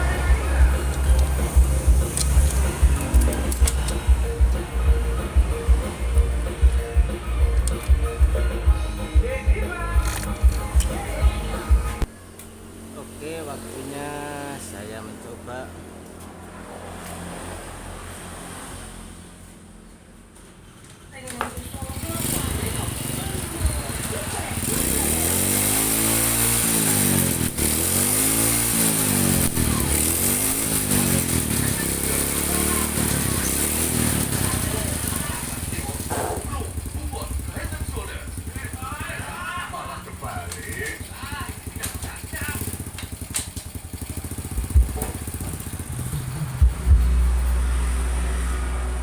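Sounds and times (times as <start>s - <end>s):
motorcycle engine revving: 0.0s - 19.2s, 21.4s - 49.0s.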